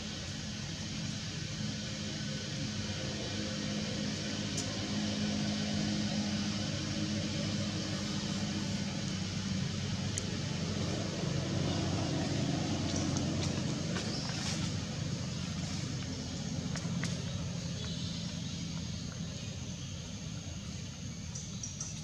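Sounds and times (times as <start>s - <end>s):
open-air background noise: 0.0s - 22.0s
motor vehicle passing rumble: 1.6s - 20.8s.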